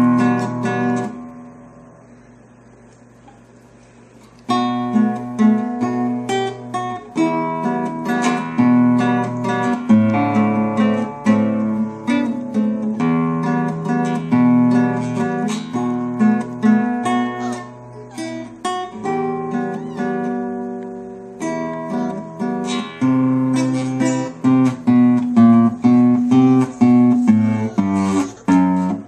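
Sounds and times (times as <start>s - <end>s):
acoustic guitar music: 0.0s - 29.0s.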